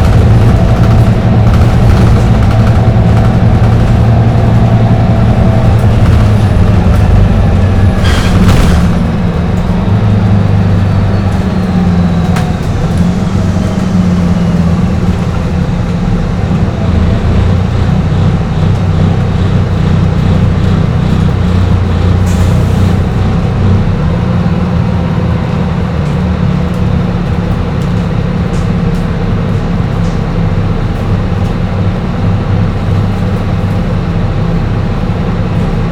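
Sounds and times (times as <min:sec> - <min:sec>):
bus engine droning: 0:00.0 - 0:35.9.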